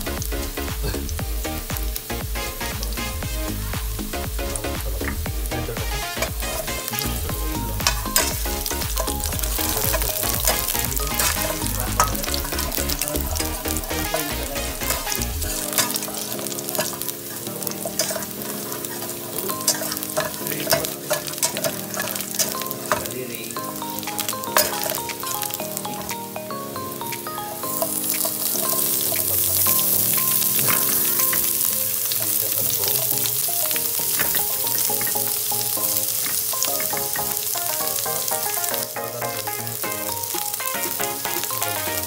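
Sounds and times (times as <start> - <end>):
garlic sizzling in oil: 0.0 - 26.1, 27.1 - 42.0.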